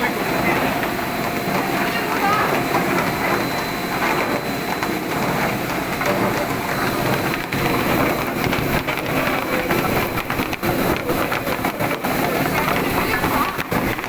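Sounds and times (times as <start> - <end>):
washing machine churning: 0.0 - 14.0.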